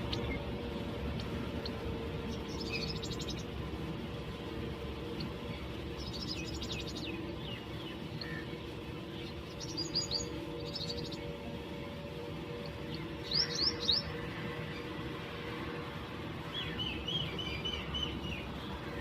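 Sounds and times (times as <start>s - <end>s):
sparrows chirping: 0.0s - 3.8s, 4.9s - 19.0s.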